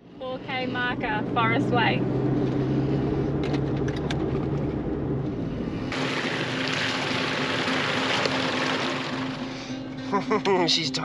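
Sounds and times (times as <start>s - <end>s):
vehicle engine drone: 0.0s - 11.0s.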